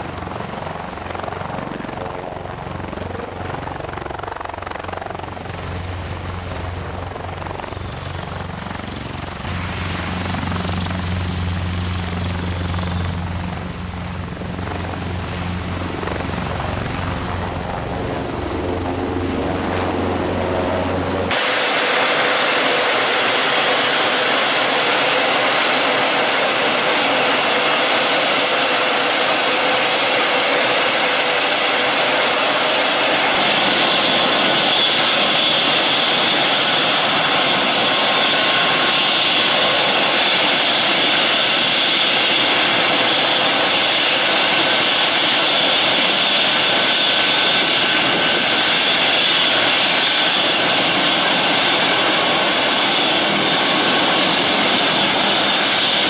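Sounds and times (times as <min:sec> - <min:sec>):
helicopter turbine rush: 0:00.0 - 0:56.0
high turbine whine: 0:03.8 - 0:56.0.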